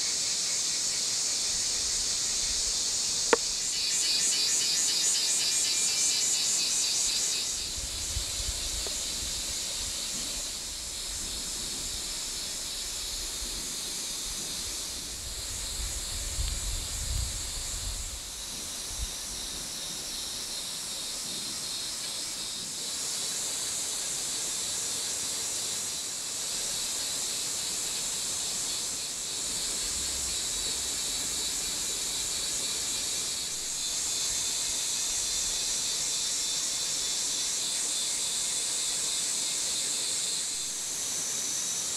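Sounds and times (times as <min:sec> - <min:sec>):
insect chorus pulsing: 0:00.0 - 0:41.9.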